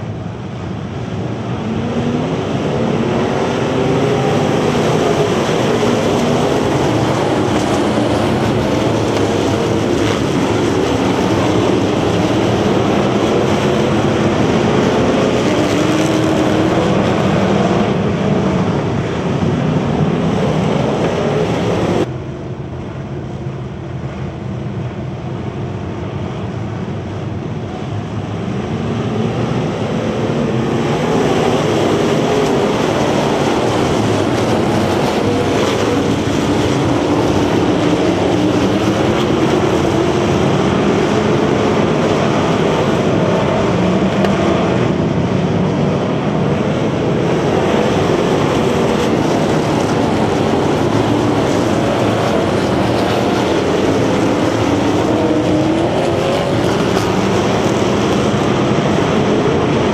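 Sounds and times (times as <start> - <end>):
stock car engines droning: 0.0 - 59.9.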